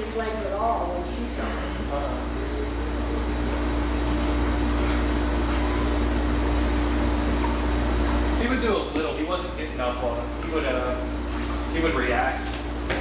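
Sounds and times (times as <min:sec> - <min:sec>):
pump humming: 0:00.0 - 0:13.0.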